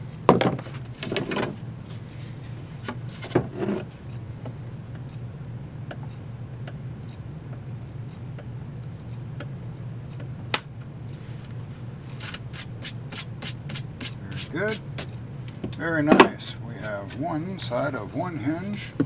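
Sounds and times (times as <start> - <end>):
low workshop hum: 0.0 - 19.0.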